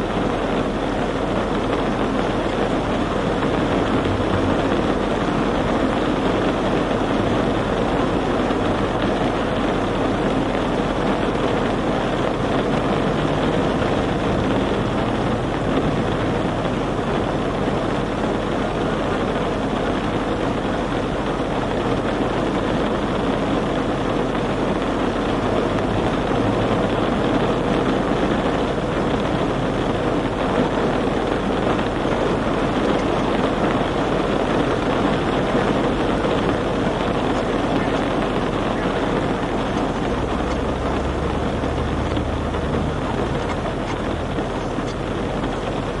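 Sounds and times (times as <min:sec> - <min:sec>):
motor vehicle rumble: 0:00.0 - 0:46.0.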